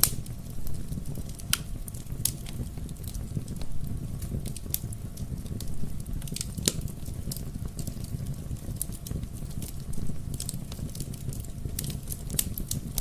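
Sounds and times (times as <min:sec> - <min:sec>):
fire crackling in a fireplace: 0:00.0 - 0:13.0.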